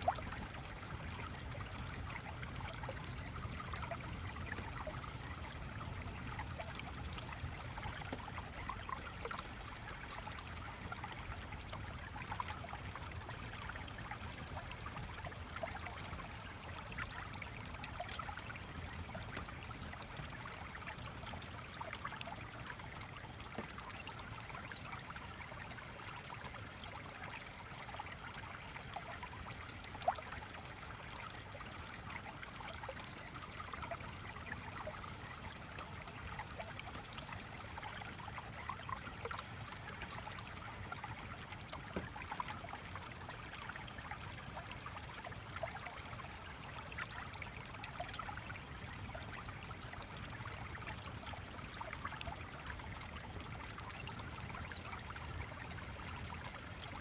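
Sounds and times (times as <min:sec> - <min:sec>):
small stream flowing: 0:00.0 - 0:57.0.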